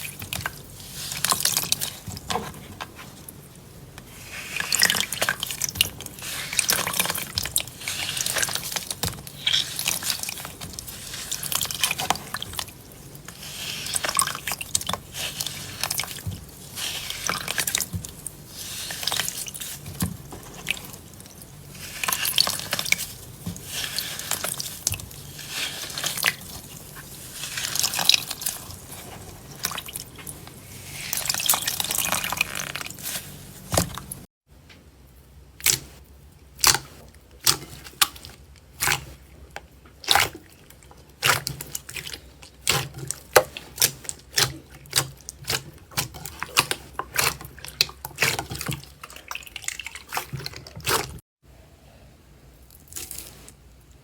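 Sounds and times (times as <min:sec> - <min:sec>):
slime squelching: 0:00.0 - 0:34.3, 0:36.6 - 0:51.2.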